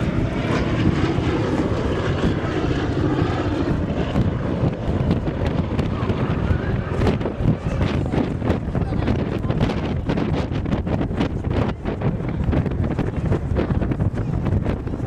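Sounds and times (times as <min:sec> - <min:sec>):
aircraft engine: 0:00.0 - 0:15.0.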